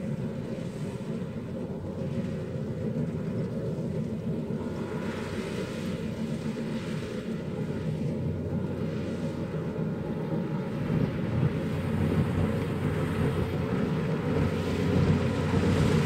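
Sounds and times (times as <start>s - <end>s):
distant combine harvester engine drone: 0.0s - 16.0s.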